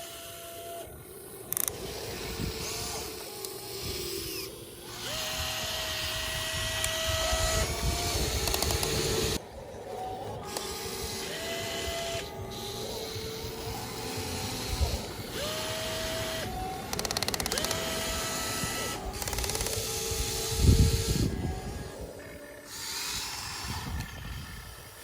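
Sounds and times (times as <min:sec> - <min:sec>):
mechanical scraping and rattling: 0:00.0 - 0:25.0
small electric motors whining: 0:00.0 - 0:25.0.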